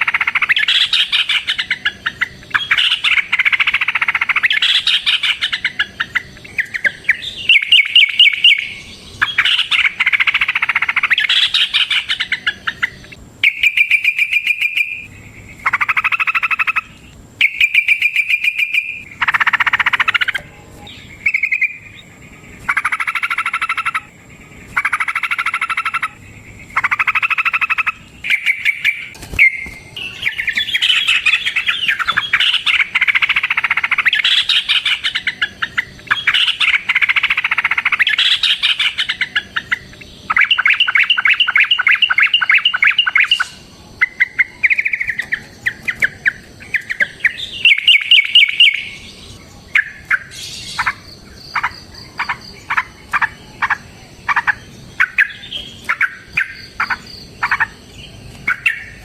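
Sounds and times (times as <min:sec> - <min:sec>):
bulbuls chattering song: 0:00.0 - 0:59.0.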